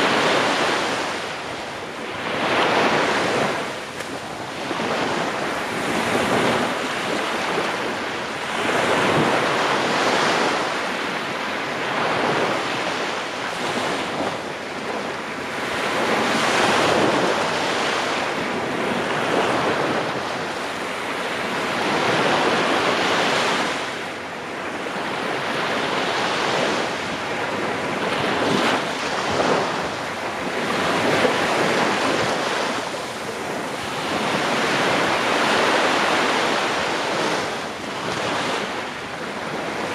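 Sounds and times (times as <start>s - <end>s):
small waves breaking on beach: 0.0s - 39.9s
wind buffeting microphone: 0.0s - 39.9s.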